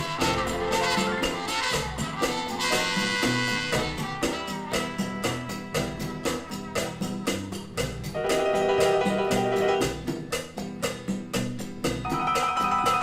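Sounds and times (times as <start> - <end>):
instrumental band music: 0.0 - 13.0.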